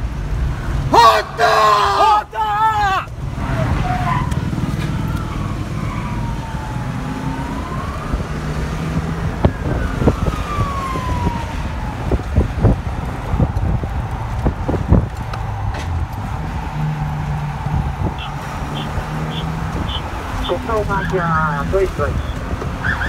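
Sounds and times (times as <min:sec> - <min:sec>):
car engine and road rumble: 0:00.0 - 0:23.0
police siren wailing: 0:00.9 - 0:23.0.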